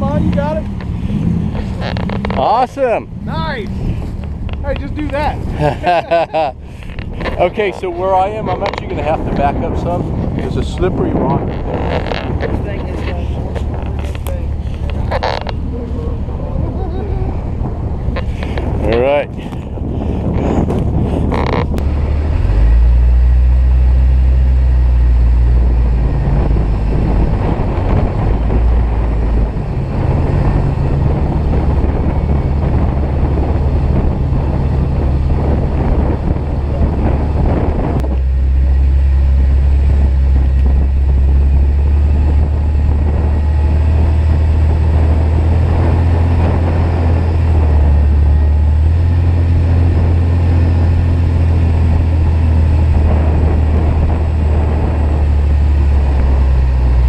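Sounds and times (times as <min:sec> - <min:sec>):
off-road vehicle engine: 0:00.0 - 0:57.0
rough rumbling noise: 0:00.0 - 0:57.0.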